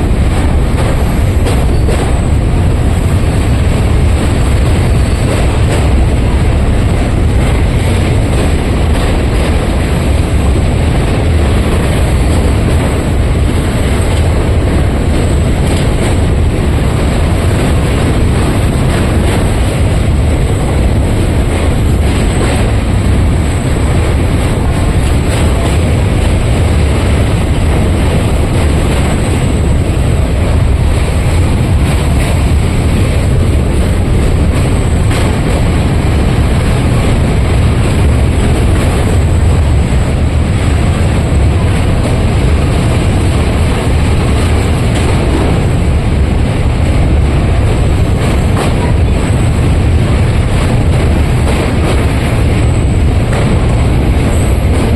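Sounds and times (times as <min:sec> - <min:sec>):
train rumbling: 0:00.0 - 0:54.9
wheels clattering on rails: 0:00.0 - 0:54.9.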